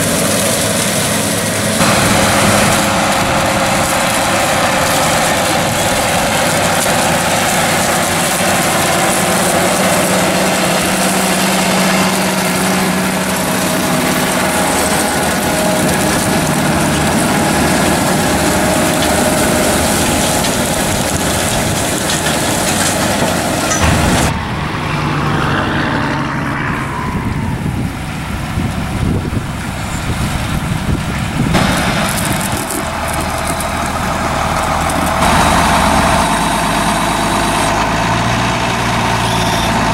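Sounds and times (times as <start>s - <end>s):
baler machinery noise: 0.0s - 39.9s
tractor diesel engine under load: 0.0s - 39.9s.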